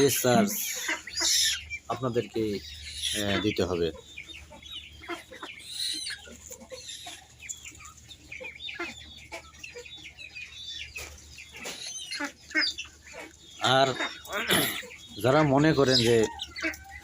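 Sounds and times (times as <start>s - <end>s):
flock of birds calling: 0.0s - 17.0s.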